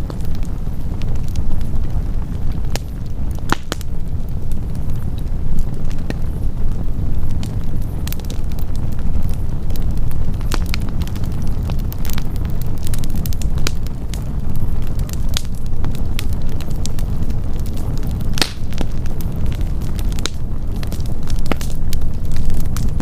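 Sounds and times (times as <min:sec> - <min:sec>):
campfire crackling and popping: 0:00.0 - 0:23.0
fire low rumble: 0:00.0 - 0:23.0.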